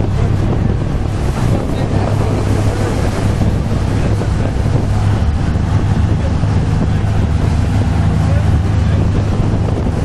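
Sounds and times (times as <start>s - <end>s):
boat engine droning: 0.0s - 10.0s
water rushing along hull: 0.0s - 10.0s
wind buffeting microphone: 0.0s - 10.0s.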